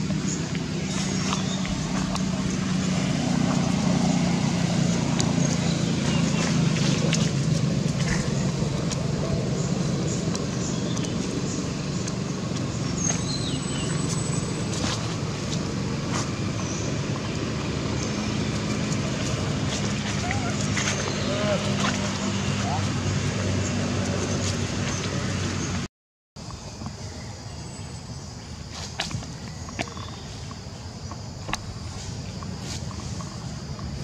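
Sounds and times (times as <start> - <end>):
vehicle engine rumbling: 0.0 - 27.0, 28.7 - 34.0.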